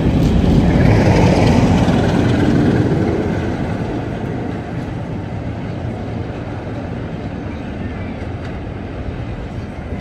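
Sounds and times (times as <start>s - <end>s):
passing train rumble: 0.0s - 10.0s.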